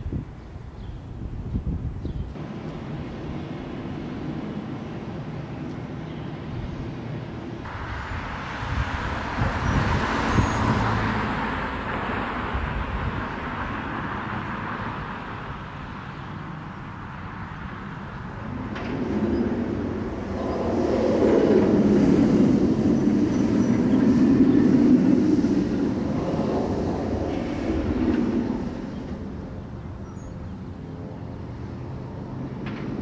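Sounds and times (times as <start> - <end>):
deep rumble of passing train: 0.0 - 33.0
roller coaster wheels roaring on rails: 0.0 - 33.0.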